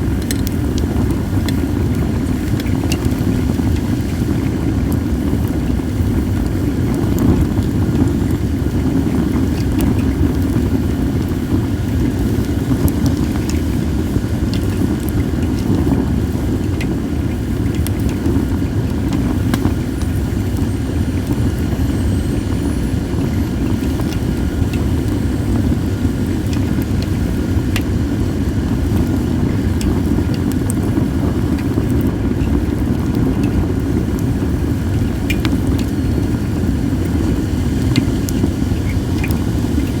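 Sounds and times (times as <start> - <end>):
wind rumble on microphone: 0.0 - 40.0
wood fire crackling and popping: 0.0 - 40.0.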